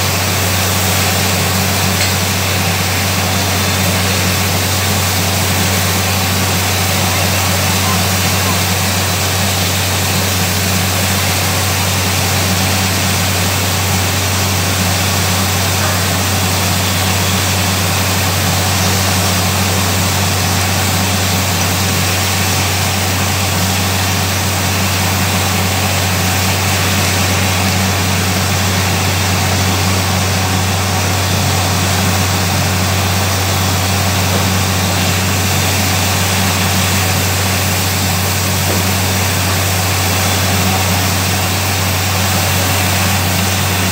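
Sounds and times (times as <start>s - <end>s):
drilling rig engine drone: 0.0s - 43.9s
water rushing spray: 0.0s - 43.9s.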